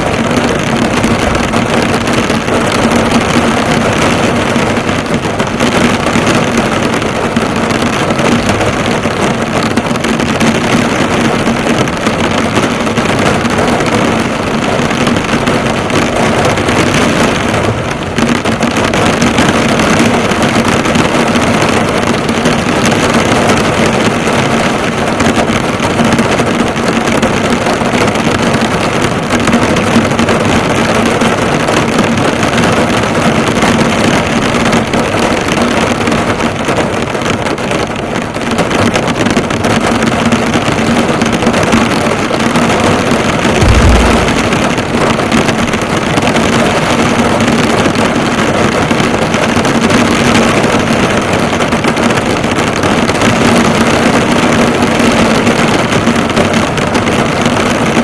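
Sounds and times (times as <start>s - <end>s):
heavy rain drumming on a car: 0.0s - 58.0s.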